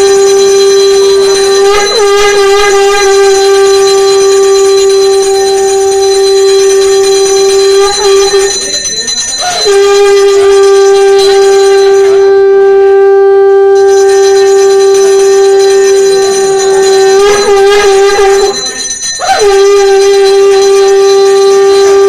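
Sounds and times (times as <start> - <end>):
conch shell blasts: 0.0 - 22.0.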